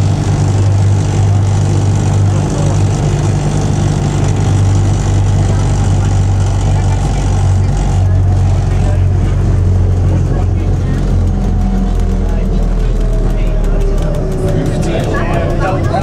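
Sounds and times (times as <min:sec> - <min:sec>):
railcar low hum: 0:00.0 - 0:16.0
wheels rumbling on track: 0:00.0 - 0:16.0.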